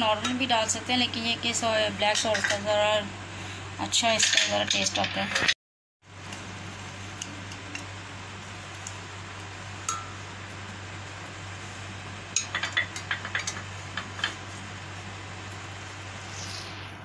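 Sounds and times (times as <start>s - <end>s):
steady low hum: 0.0s - 5.4s, 6.0s - 17.0s.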